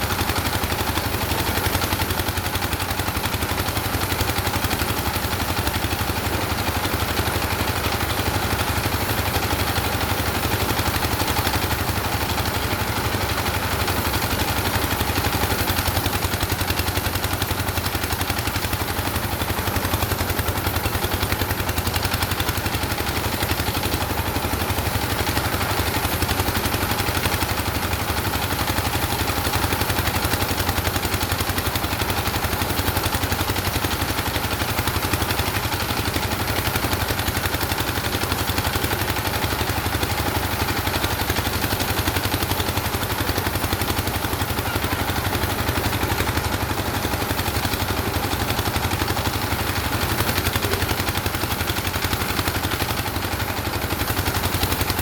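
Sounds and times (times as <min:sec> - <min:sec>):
engine chugging steadily: 0:00.0 - 0:55.0.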